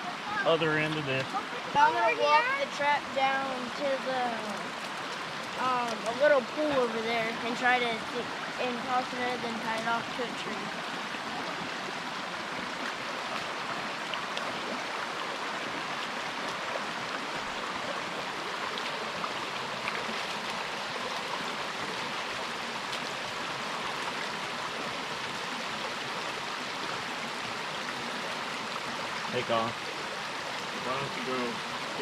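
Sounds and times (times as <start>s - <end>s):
creek water babbling: 0.0s - 32.0s.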